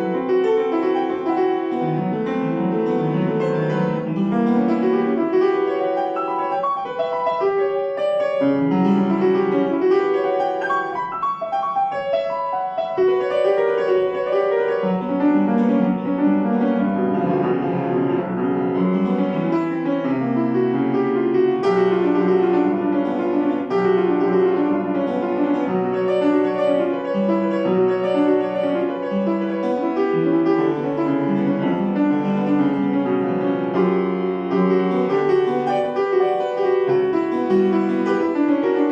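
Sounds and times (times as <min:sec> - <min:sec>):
solo piano classical piece: 0:00.0 - 0:38.9.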